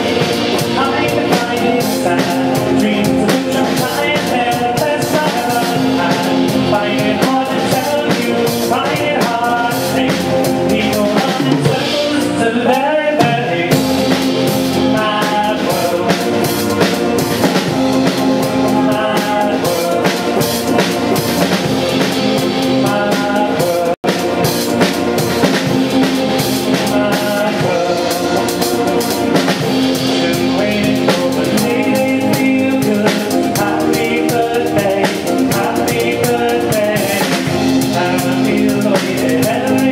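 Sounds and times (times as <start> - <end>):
man singing: 0.0 - 24.6, 25.5 - 39.9
drum kit: 0.0 - 39.9
electric guitar: 0.0 - 39.9.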